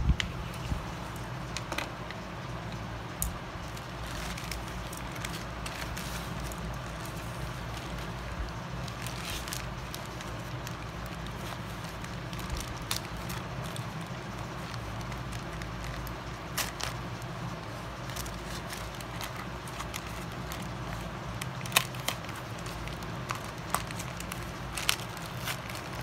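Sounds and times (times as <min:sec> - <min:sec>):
plastic bag crinkling: 0:00.2 - 0:26.0.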